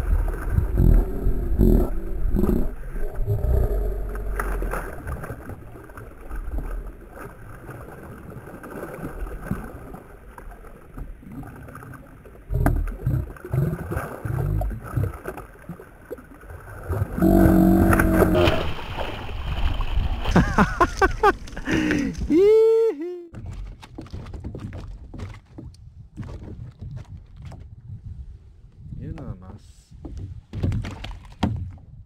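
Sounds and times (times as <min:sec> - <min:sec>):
fish splashing and thrashing: 0:00.0 - 0:22.4, 0:23.3 - 0:28.1, 0:30.1 - 0:32.0.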